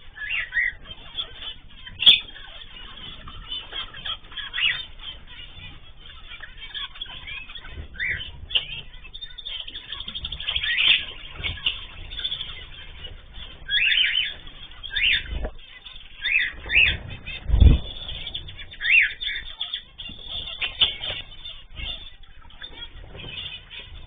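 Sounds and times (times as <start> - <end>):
cage birds chirping: 0.0 - 24.0
wings flapping: 0.0 - 24.0.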